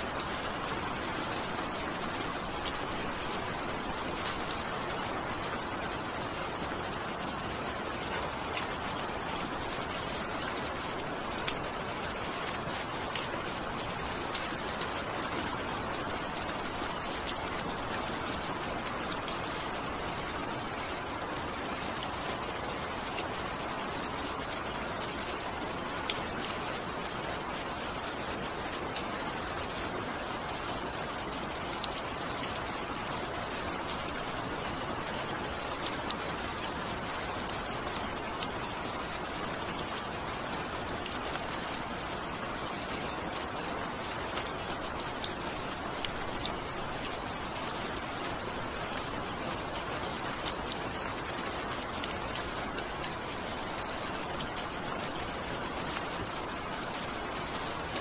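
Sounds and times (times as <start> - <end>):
raindrops ticking on a surface: 0.0 - 58.0
steady rain hiss: 0.0 - 58.0.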